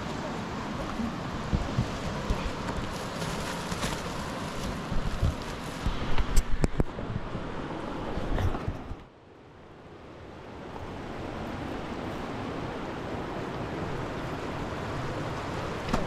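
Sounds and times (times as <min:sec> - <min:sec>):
river water rushing: 0:00.0 - 0:08.4, 0:09.2 - 0:16.0.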